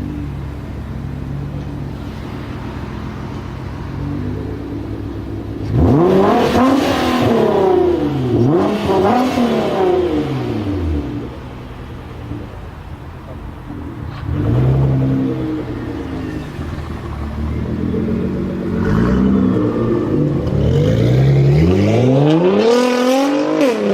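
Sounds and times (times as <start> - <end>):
car engine idling and revving: 0.0 - 23.9.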